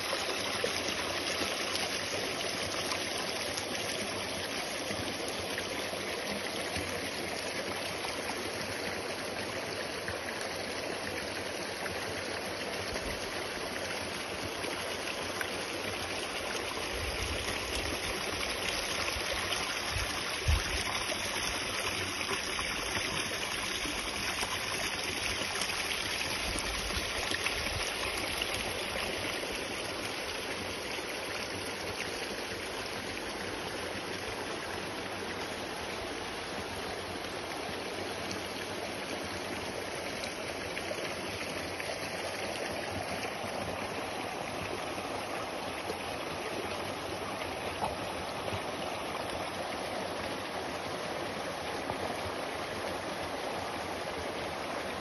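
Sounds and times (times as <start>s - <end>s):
stream running over rock: 0.0s - 55.0s.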